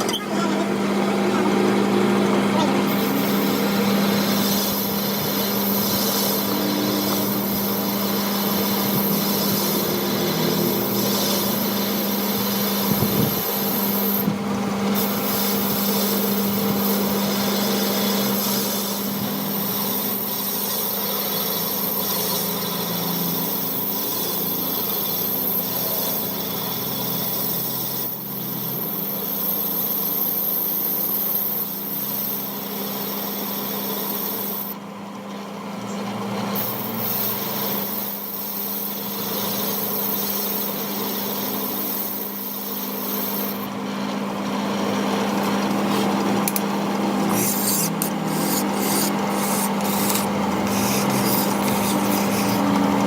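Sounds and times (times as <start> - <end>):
power tool filing metal: 0.0 - 34.8, 36.0 - 53.0
motor hum: 0.0 - 53.0.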